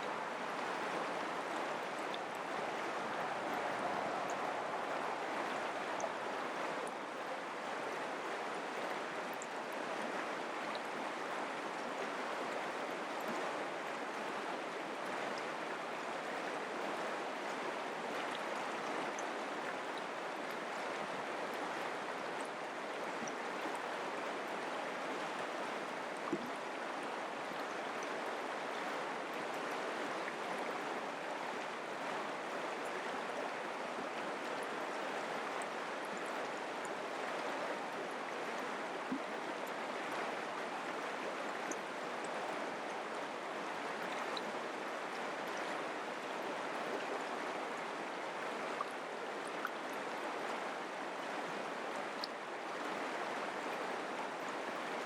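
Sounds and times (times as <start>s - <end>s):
creek water running over rocks: 0.0s - 55.0s.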